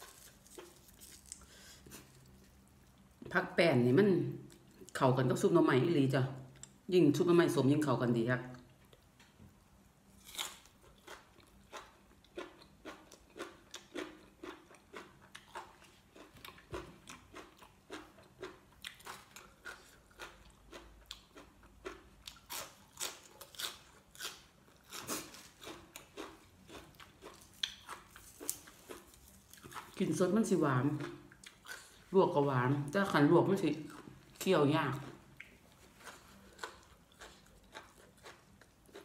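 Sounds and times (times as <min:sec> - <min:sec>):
person chewing crisp vegetables: 0:00.0 - 0:03.2, 0:10.1 - 0:32.2, 0:32.8 - 0:39.0.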